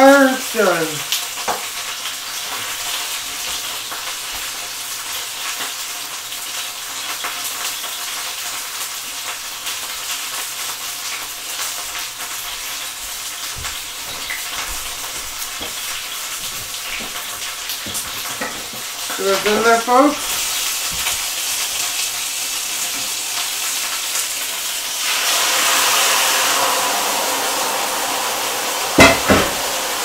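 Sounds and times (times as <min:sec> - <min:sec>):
chicken sizzling in hot oil: 0:00.0 - 0:30.0.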